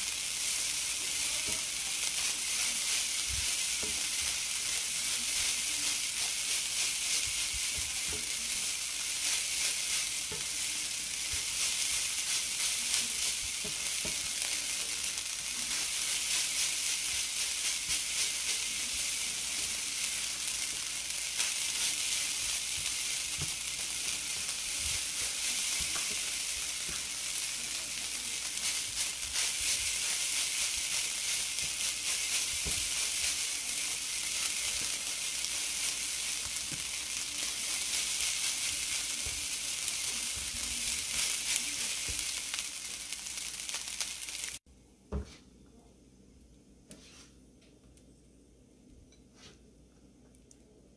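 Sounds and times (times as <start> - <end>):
spatula scraping a pan: 0.0 - 44.6
fried rice sizzling in a pan: 0.0 - 44.7.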